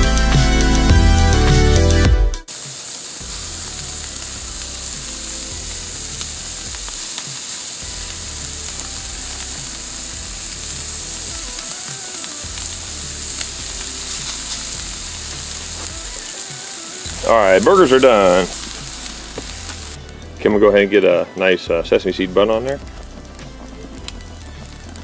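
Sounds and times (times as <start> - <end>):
burger patties sizzling on grill: 2.4 - 25.0.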